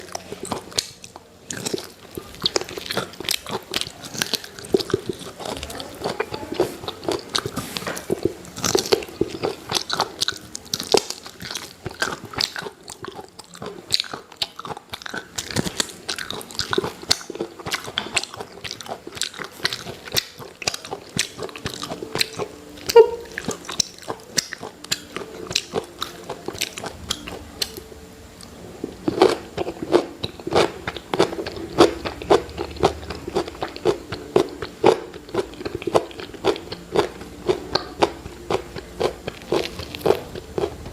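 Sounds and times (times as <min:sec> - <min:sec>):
crunching fried chicken: 0:00.0 - 0:27.9, 0:28.9 - 0:40.9.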